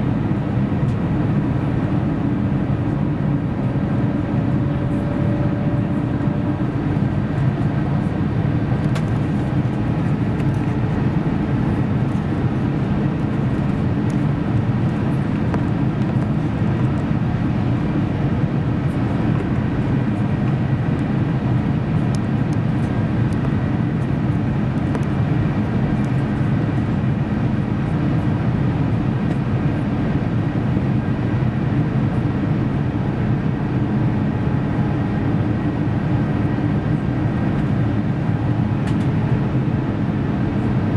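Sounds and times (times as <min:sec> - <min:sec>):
airliner cabin rumble: 0:00.0 - 0:40.9.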